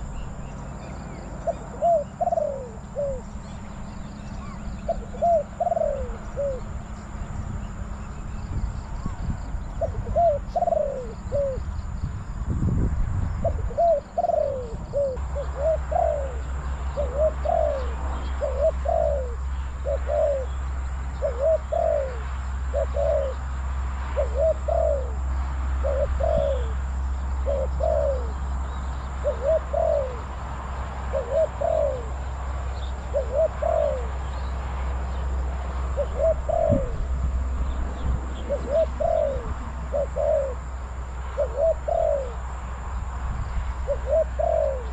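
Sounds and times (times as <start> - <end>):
low wind rumble: 0.0 - 44.9
doves cooing: 1.1 - 7.2, 9.7 - 11.7, 13.4 - 23.5, 24.1 - 35.2, 35.8 - 37.5, 38.2 - 42.6, 43.8 - 44.9.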